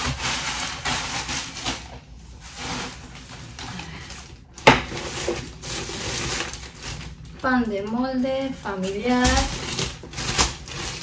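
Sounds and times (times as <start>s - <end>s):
plastic bags rustling: 0.0s - 11.0s.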